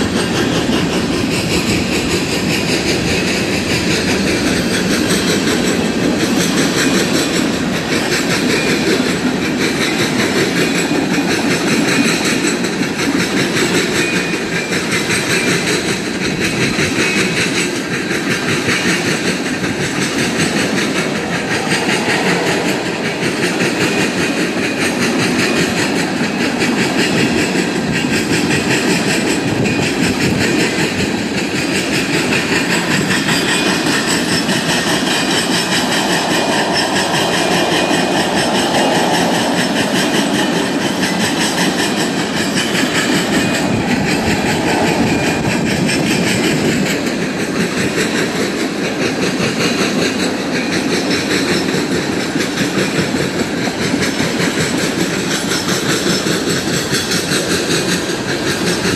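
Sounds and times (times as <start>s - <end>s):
freight train wheels clattering: 0.0s - 58.9s.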